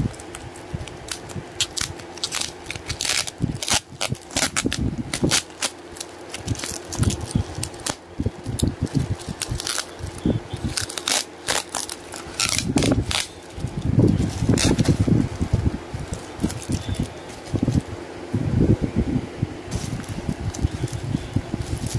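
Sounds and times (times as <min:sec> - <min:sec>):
bubble wrap crackling: 0:00.0 - 0:17.9, 0:19.7 - 0:21.9.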